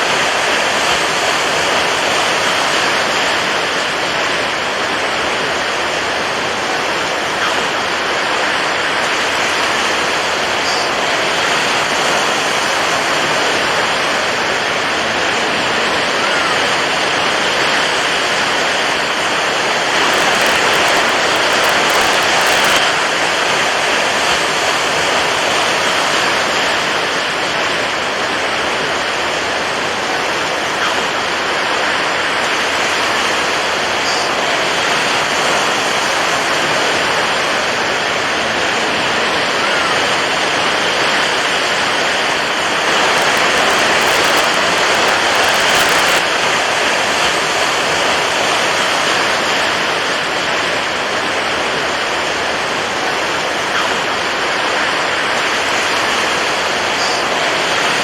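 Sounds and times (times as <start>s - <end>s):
water waves washing: 0.0s - 58.0s.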